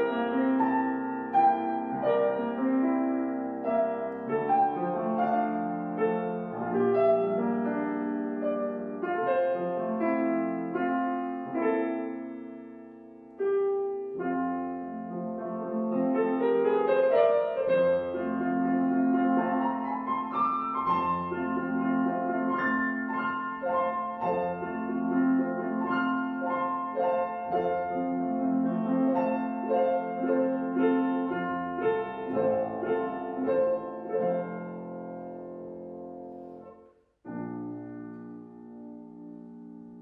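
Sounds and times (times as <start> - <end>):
gentle piano melody: 0.0 - 40.0.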